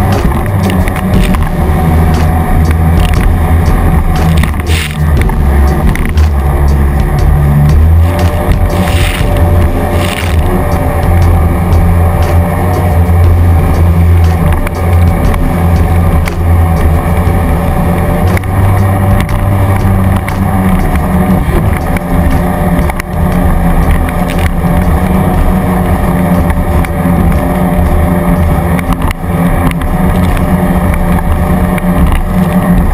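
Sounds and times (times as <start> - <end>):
jet ski engine running: 0.0 - 32.9.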